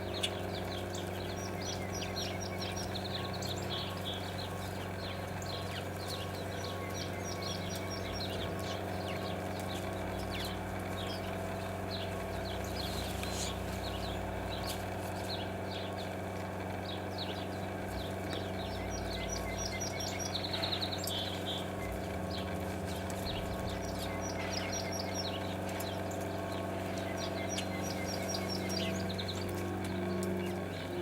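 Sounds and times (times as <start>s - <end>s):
songbirds singing: 0.0s - 31.0s
steady low hum: 0.0s - 31.0s.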